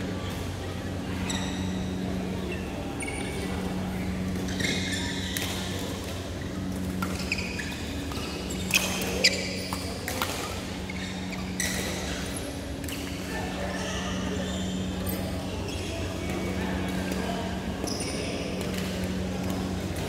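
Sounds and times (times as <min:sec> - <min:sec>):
steady low hum: 0:00.0 - 0:20.0
shoes squeaking on court: 0:00.1 - 0:20.0.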